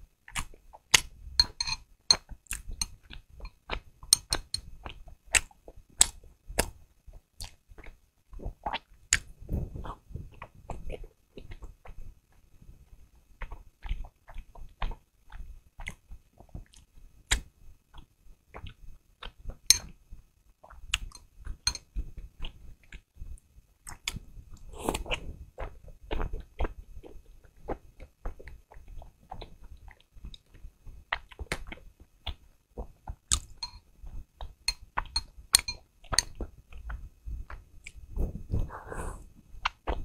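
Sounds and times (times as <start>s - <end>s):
wet chewing: 0.2s - 6.8s, 7.4s - 12.4s, 13.4s - 19.9s, 20.6s - 23.1s, 23.8s - 38.0s
mouth clicks and smacks: 0.2s - 12.4s, 13.4s - 19.9s, 20.6s - 23.1s, 23.8s - 40.0s.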